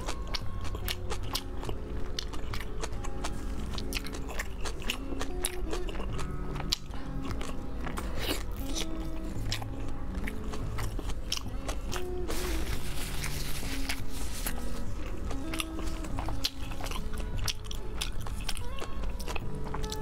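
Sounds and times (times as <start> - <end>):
biting and chewing sausage: 0.0 - 20.0
wet mouth sounds: 0.0 - 20.0.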